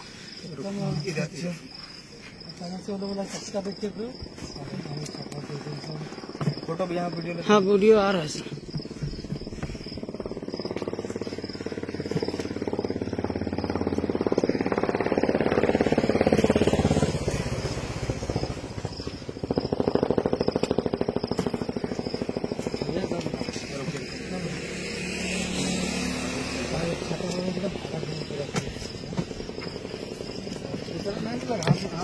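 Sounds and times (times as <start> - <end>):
motor engine pulsing: 4.0 - 32.0.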